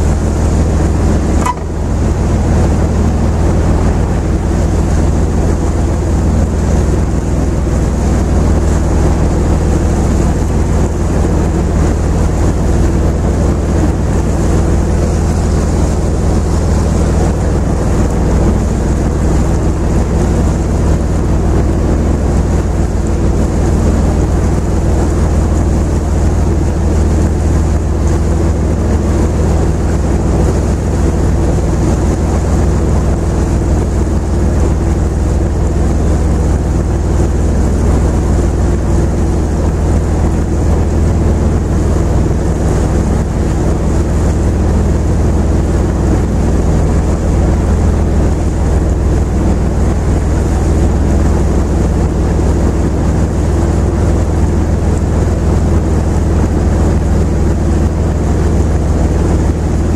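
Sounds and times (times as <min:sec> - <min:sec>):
boat engine humming: 0:00.0 - 0:59.9
water rushing: 0:00.0 - 0:59.9.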